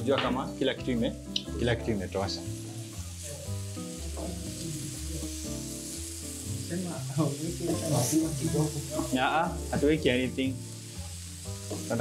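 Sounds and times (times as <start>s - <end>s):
background music: 0.0s - 12.0s
fish sizzling in a pan: 1.2s - 12.0s.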